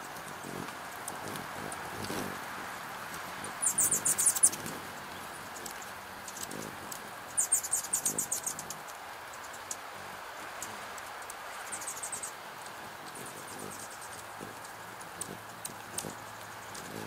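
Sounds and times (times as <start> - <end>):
hummingbirds chattering: 0.0 - 17.0.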